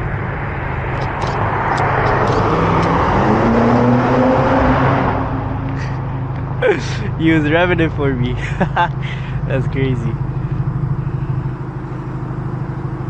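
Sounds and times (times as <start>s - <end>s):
car engine revving: 0.0s - 13.0s
low engine hum: 0.0s - 13.0s.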